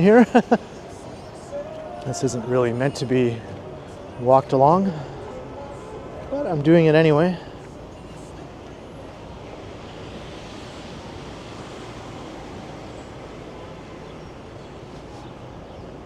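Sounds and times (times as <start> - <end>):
city street traffic: 0.0 - 16.0
vehicle passing: 0.0 - 16.0.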